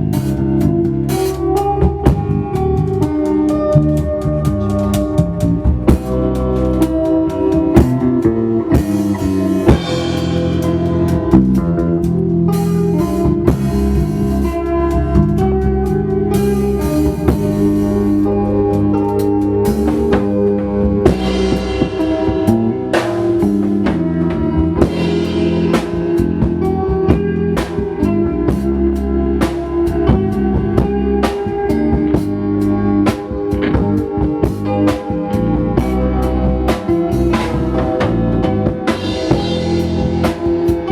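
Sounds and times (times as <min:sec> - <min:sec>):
bass: 0:00.0 - 0:40.9
drum kit: 0:00.0 - 0:40.9
guitar: 0:00.0 - 0:40.9.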